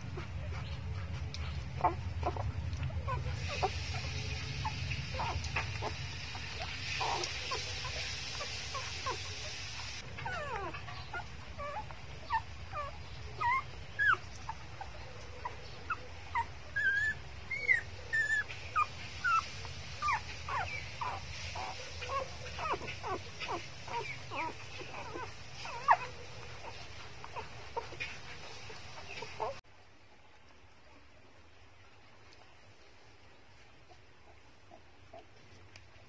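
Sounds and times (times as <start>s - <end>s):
puppies squeaking and whimpering: 0.0s - 29.6s.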